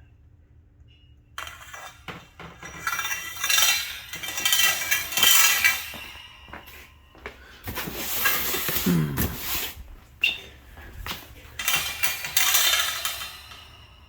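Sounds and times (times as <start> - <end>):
metal scraping and clinking: 1.4 - 14.0.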